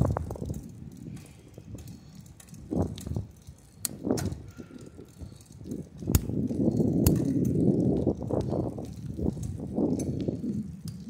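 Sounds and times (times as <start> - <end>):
bicycle clicks: 0.0 - 11.0
bicycle tyres rolling rumble: 0.0 - 11.0.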